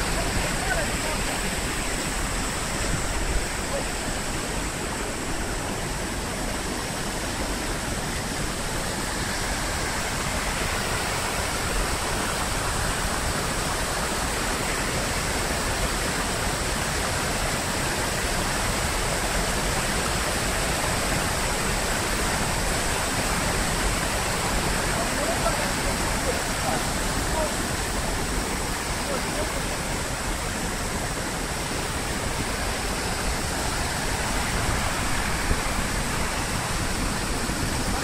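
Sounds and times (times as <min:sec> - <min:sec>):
floodwater rushing over a drop: 0:00.0 - 0:38.0.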